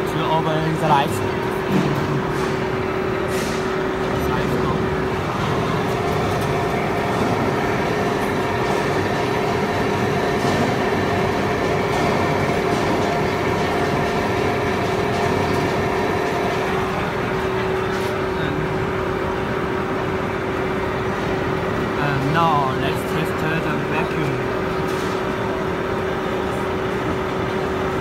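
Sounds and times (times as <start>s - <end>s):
mixing machine motors humming: 0.0s - 28.0s.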